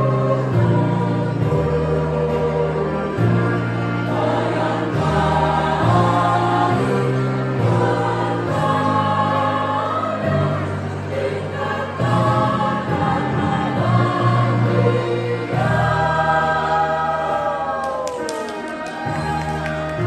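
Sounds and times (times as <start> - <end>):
held low accompaniment notes: 0.0 - 17.7
choir singing: 0.0 - 20.0.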